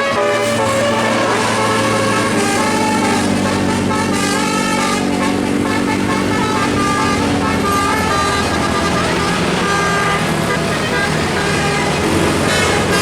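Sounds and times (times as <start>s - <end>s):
diesel bus engine running: 0.0s - 13.0s
musical air horn melody: 0.0s - 13.0s.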